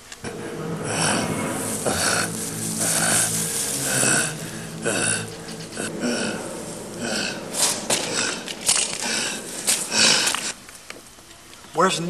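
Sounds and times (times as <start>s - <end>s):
man's harsh rasping breaths: 0.3s - 10.6s.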